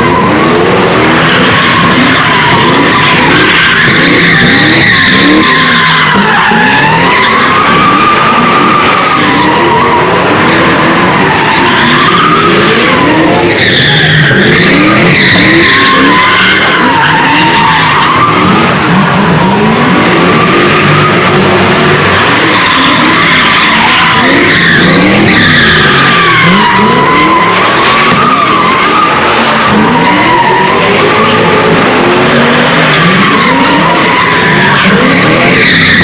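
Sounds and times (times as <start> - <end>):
car engine revving: 0.0 - 36.0
car tires squealing: 0.0 - 36.0.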